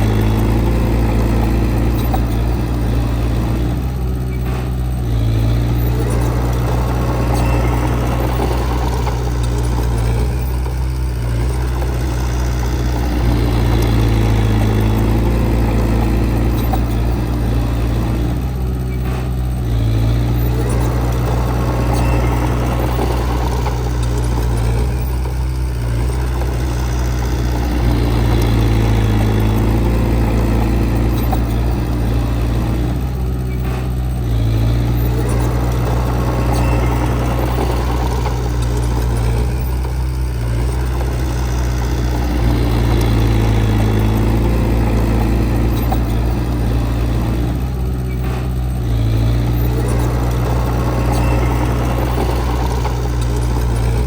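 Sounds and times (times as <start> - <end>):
heavy machine diesel engine running: 0.0 - 54.0.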